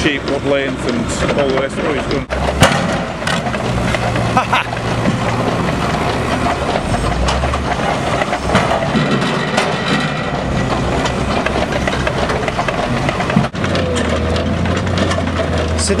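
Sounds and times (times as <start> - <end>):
logs knocking on a conveyor: 0.0 - 16.0
machinery rumble: 0.0 - 16.0.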